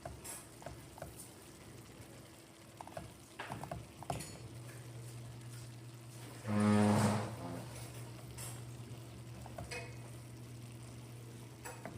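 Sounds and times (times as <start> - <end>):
greens sizzling in a pan: 0.0 - 11.9.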